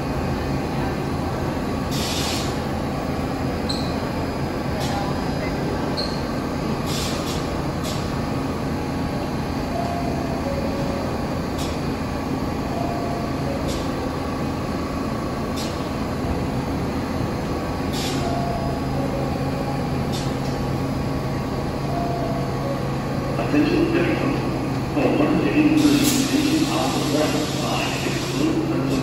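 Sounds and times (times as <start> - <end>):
subway train rumble: 0.0 - 29.0.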